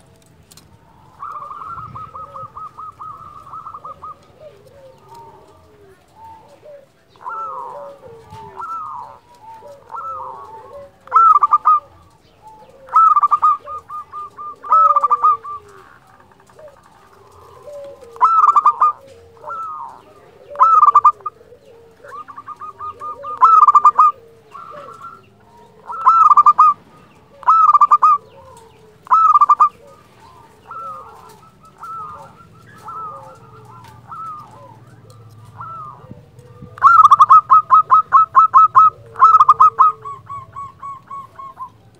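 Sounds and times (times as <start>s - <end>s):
dove cooing: 0.0s - 41.9s
quieter lower cooing: 0.0s - 41.9s.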